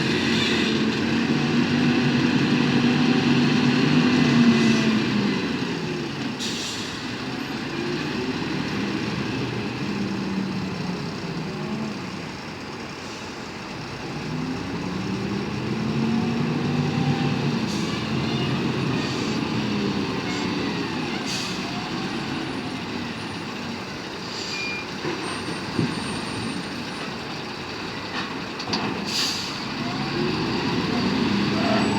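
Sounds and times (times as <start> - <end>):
heavy truck engine running: 0.0 - 31.9.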